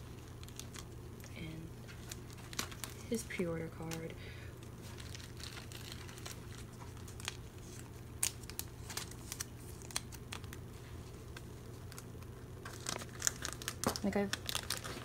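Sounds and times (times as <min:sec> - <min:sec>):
plastic pages crinkling: 0:00.0 - 0:00.9, 0:01.8 - 0:15.0.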